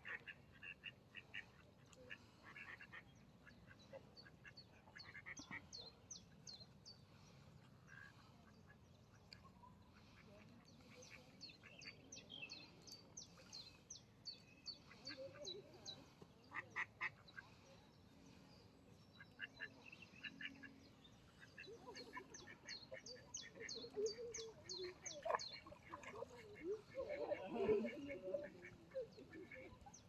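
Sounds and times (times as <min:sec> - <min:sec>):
ducks quacking faintly: 0:00.0 - 0:30.0.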